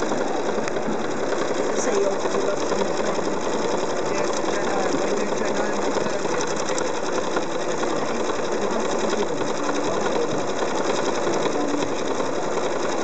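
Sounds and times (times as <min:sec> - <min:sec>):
sewing machine stitching rapidly: 0:00.0 - 0:13.0.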